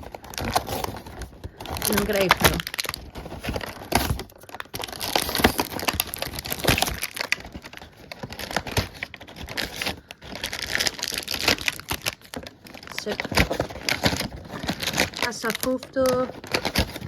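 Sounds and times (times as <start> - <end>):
toy packaging crinkling: 0.0 - 17.0.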